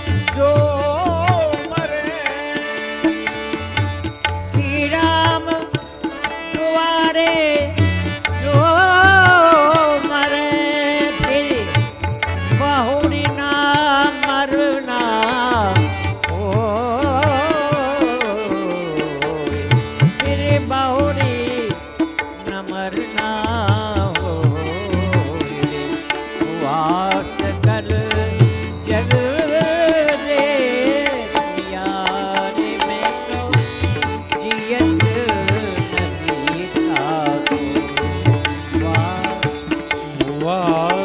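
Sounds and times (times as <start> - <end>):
tabla beat: 0.0 - 41.0.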